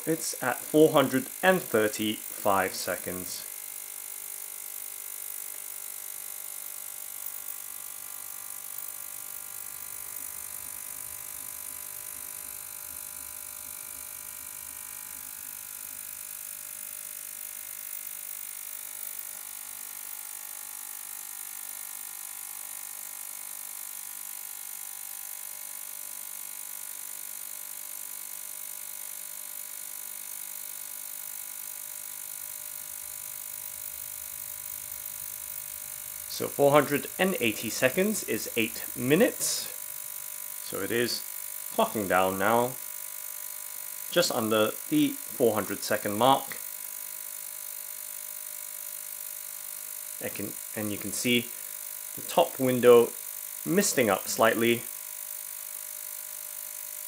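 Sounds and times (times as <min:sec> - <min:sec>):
ultrasonic cleaner buzzing: 0:00.0 - 0:57.0.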